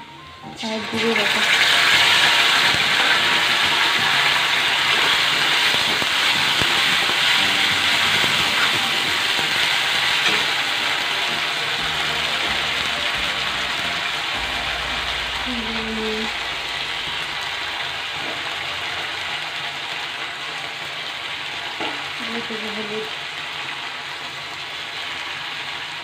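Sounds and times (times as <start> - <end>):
food sizzling in oil: 0.1 - 26.0.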